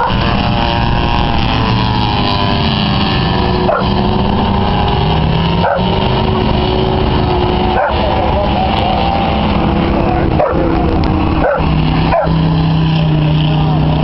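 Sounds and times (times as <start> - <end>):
racing truck engines: 0.0 - 14.0.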